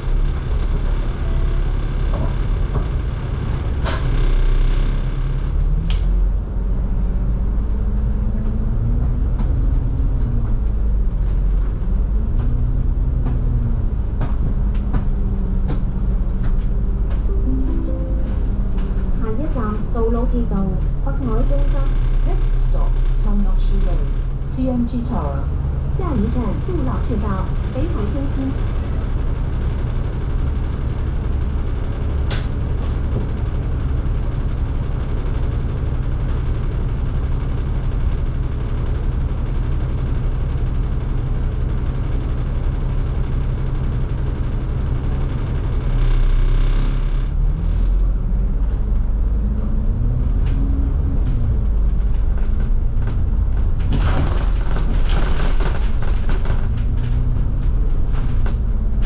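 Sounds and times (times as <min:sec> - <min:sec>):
bus body rattling: 0:00.0 - 0:17.4, 0:18.4 - 0:59.0
bus engine and road drone: 0:00.0 - 0:59.0.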